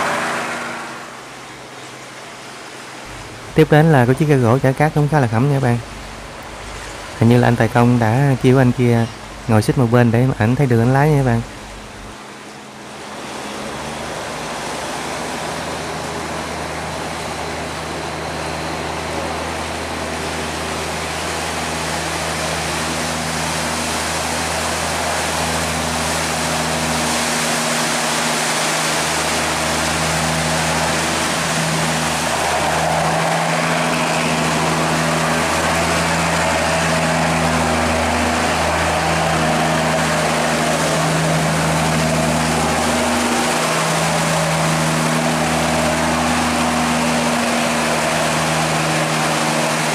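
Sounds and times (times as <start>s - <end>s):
boat engine hum: 0.0s - 49.9s
churning wake water: 0.0s - 49.9s.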